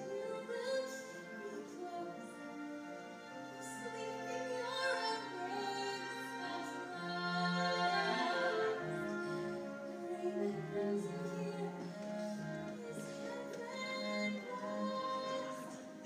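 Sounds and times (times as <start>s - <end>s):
orchestral accompaniment: 0.0s - 16.0s.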